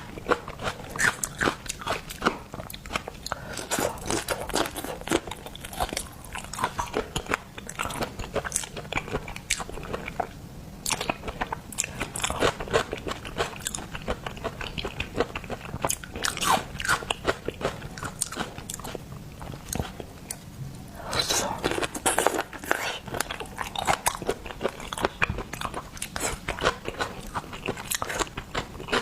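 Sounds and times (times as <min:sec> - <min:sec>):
wet chewing and crunching: 0:00.0 - 0:20.4, 0:21.1 - 0:29.0.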